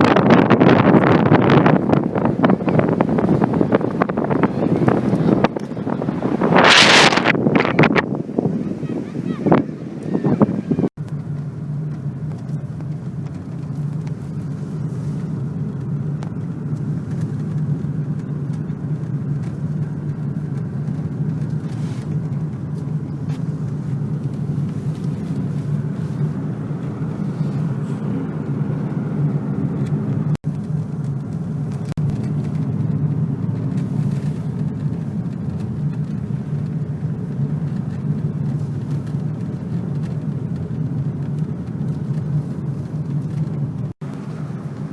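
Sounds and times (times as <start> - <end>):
car engine and road hum: 0.0 - 44.9.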